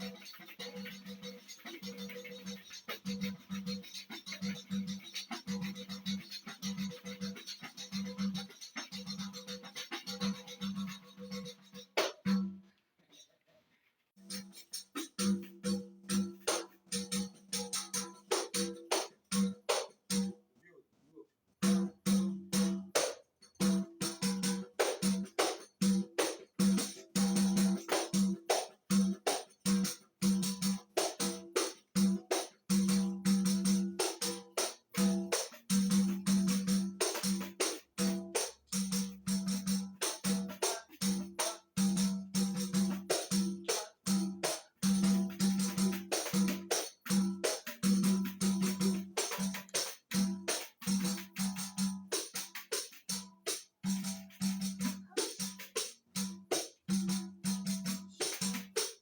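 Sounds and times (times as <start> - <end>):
tamborims playing samba rhythm: 0.0 - 12.6, 14.2 - 20.3, 21.6 - 59.0.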